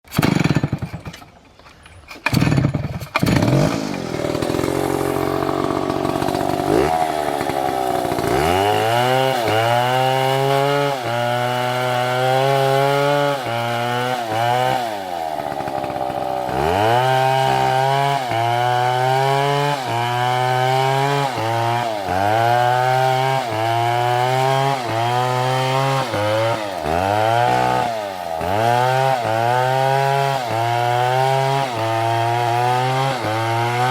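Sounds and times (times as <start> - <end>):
chainsaw cutting wood: 0.1 - 1.4, 2.1 - 33.9.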